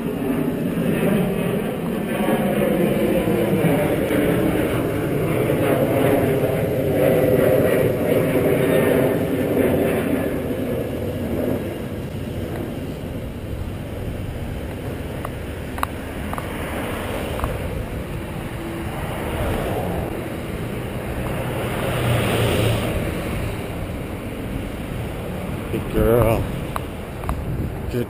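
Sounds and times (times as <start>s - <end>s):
steady traffic hum: 0.0s - 28.0s
vehicles passing: 0.4s - 28.0s.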